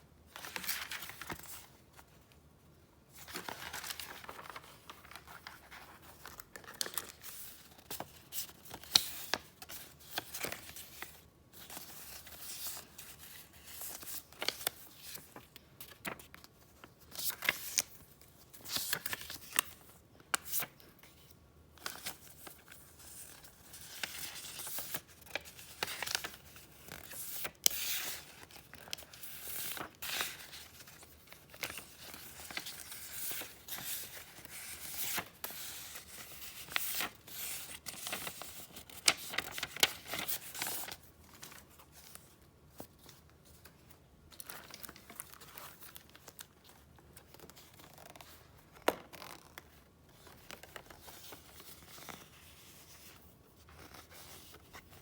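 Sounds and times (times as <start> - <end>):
paper rustling and crinkling: 0.3 - 2.4, 3.1 - 55.0.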